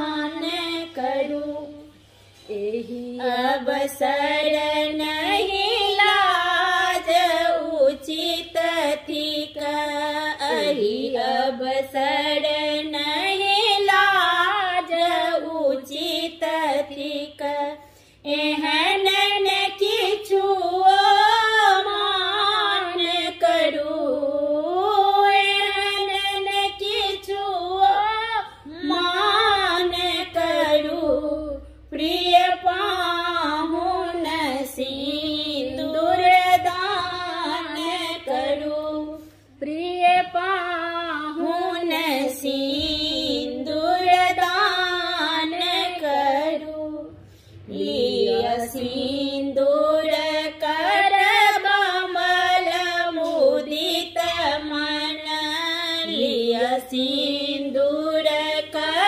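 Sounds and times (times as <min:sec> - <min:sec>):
women singing unaccompanied: 0:00.0 - 0:59.0.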